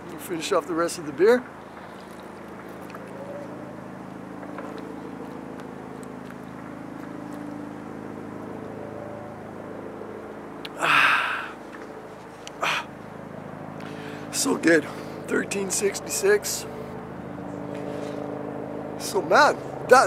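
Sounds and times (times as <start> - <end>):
engine humming steadily: 0.0 - 20.0.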